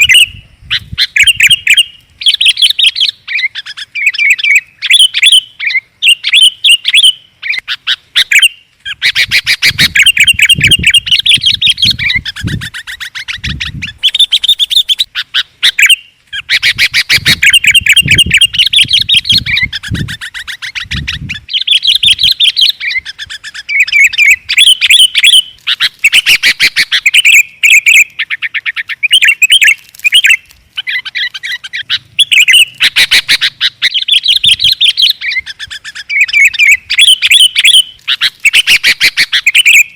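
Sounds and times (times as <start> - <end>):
birds chattering and trilling: 0.0 - 39.9.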